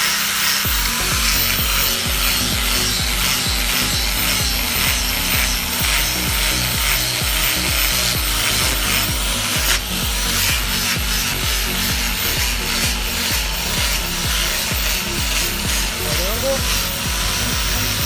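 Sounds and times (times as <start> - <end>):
angle grinder grinding metal: 0.0 - 18.0.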